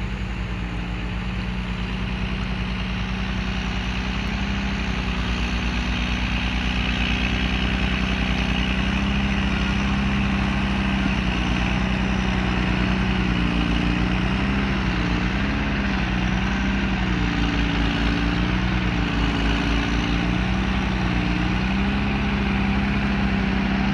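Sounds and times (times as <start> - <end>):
diesel engine droning: 0.0 - 23.9.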